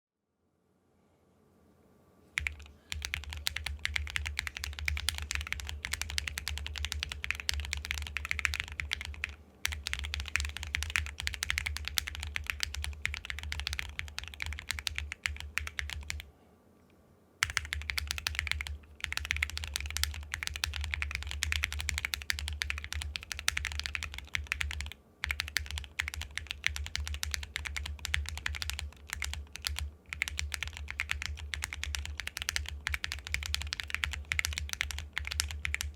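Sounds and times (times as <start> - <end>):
mechanical keyboard typing: 2.4 - 16.2, 17.4 - 35.9.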